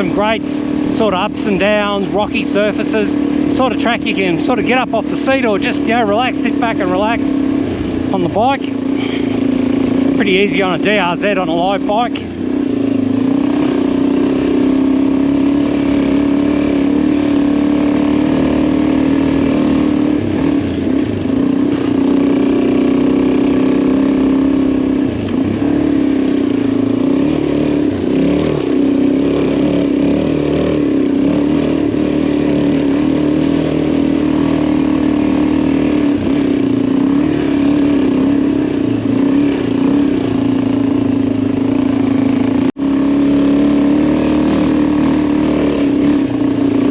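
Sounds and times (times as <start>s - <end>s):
motorcycle engine running: 0.0s - 46.9s
rush of riding noise: 0.0s - 46.9s.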